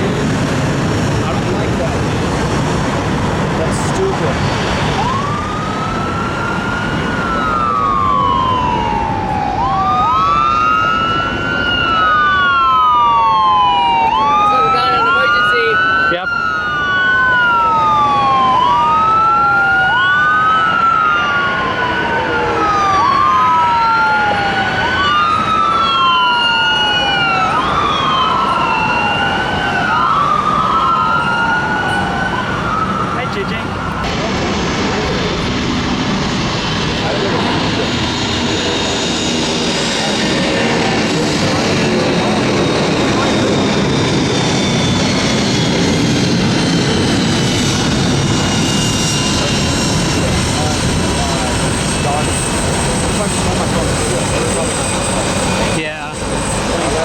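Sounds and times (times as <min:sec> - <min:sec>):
emergency sirens wailing: 0:00.0 - 0:57.0
high engine whine: 0:00.0 - 0:57.0
jet engines rushing: 0:00.0 - 0:57.0.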